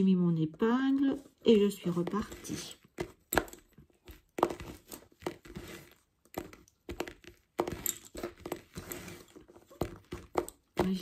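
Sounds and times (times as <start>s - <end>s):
lace bobbins clacking: 0.6s - 11.0s.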